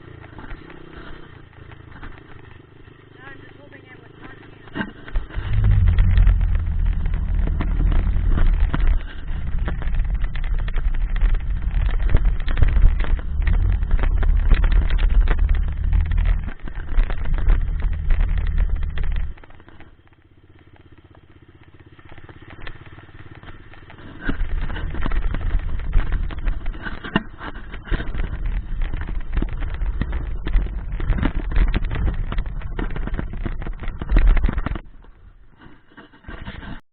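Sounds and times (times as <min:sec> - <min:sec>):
dirt bike engine rumbling: 0:00.0 - 0:36.8.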